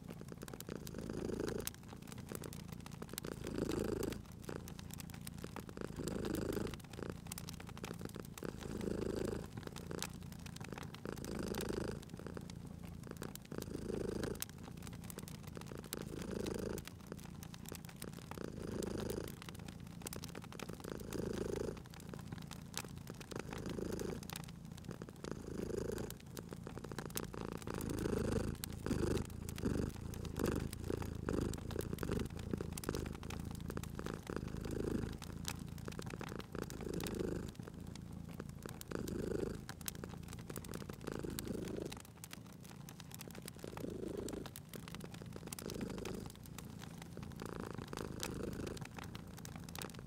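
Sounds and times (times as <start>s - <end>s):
cat purring: 0.0s - 50.0s
wood fire crackling and popping: 0.0s - 50.0s.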